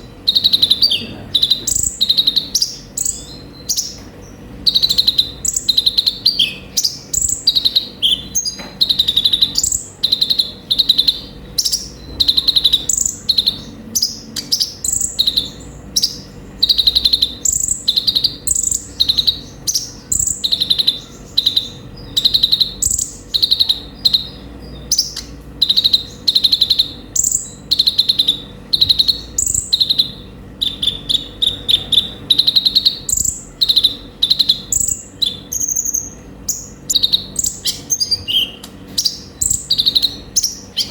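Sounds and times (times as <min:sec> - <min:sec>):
sunbird chirping: 0:00.0 - 0:40.9.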